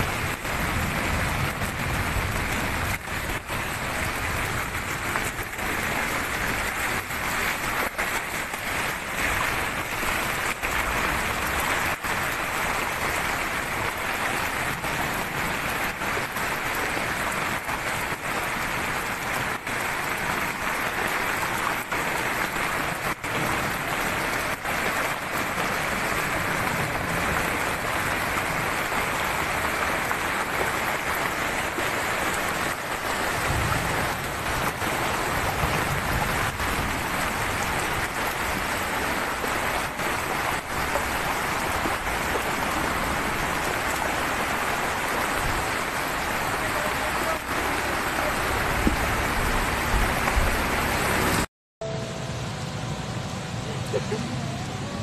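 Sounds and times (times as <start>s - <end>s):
floodwater rushing: 0.0s - 51.5s.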